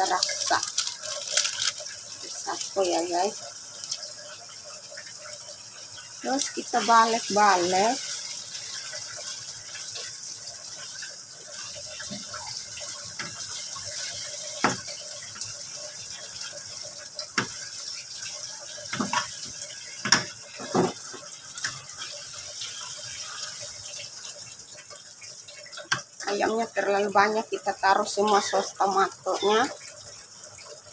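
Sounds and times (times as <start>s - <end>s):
sauce sizzling in a frying pan: 0.0s - 30.9s.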